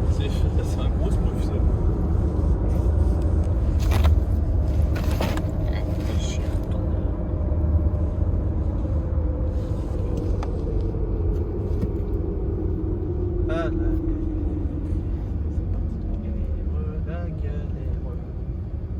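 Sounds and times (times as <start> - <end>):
low rumble of vehicle: 0.0 - 18.9.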